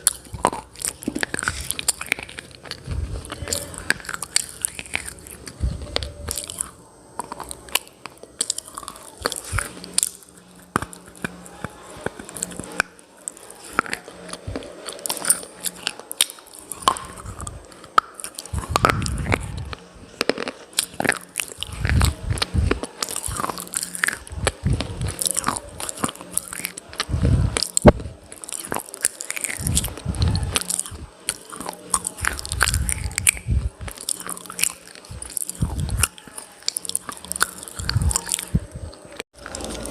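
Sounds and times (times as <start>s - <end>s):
person chewing brittle clay: 0.0s - 39.9s.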